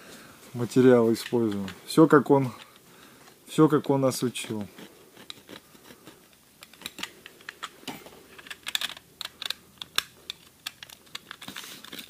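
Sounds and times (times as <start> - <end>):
tape rustling: 0.5 - 3.5, 4.1 - 12.0.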